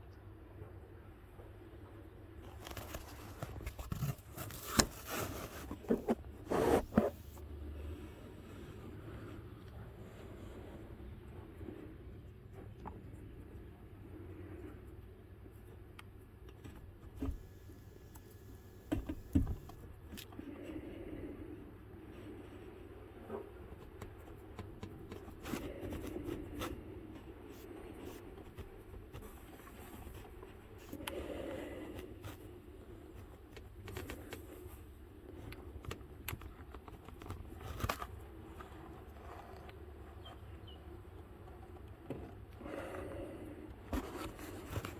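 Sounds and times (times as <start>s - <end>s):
faint low hum: 0.0s - 44.9s.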